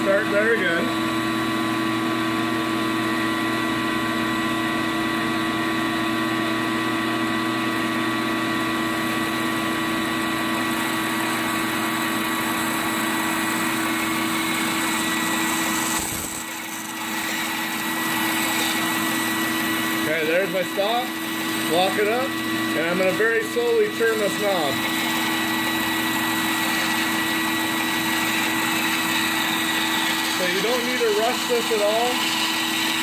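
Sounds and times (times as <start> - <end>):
bandsaw running: 0.0 - 33.0.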